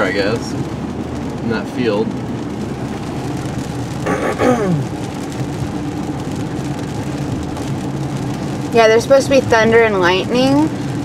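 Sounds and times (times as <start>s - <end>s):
rain on car body: 0.0s - 11.0s
road and engine noise: 0.0s - 11.0s.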